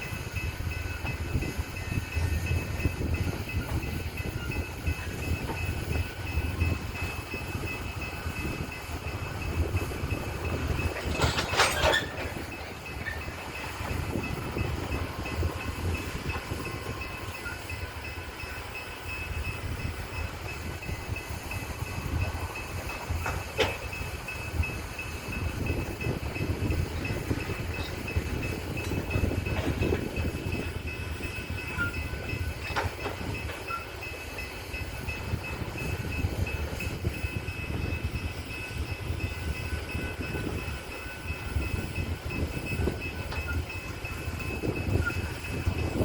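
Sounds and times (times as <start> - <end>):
train rolling on rails: 0.0 - 46.0.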